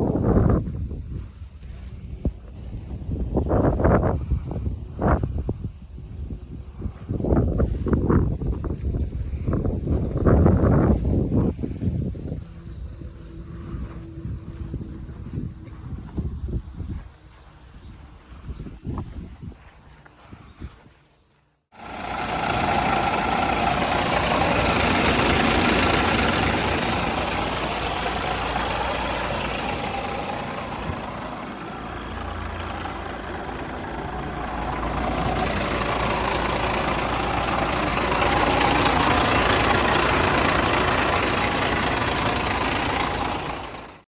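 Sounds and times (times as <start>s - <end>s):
diesel truck engine running: 0.0s - 17.2s, 21.8s - 44.0s.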